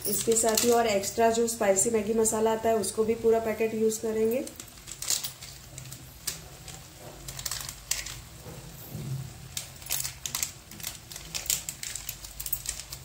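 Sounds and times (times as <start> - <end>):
noodles simmering in water: 0.0 - 13.0.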